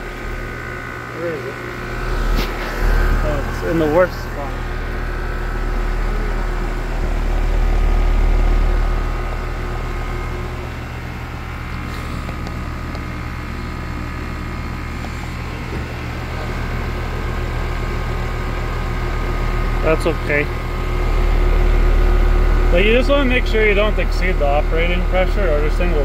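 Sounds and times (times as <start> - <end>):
air conditioner unit humming: 0.0 - 26.0.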